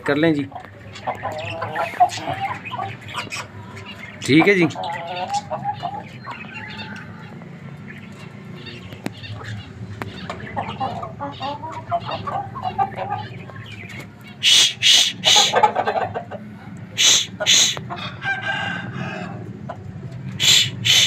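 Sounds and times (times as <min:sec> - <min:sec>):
chickens clucking: 0:00.0 - 0:21.0
loud harsh chicken calls: 0:00.7 - 0:08.3, 0:09.2 - 0:21.0.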